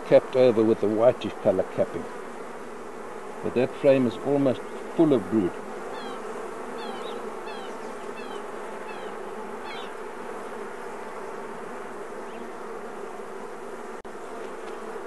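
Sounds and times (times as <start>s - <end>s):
bees humming: 0.0s - 15.0s.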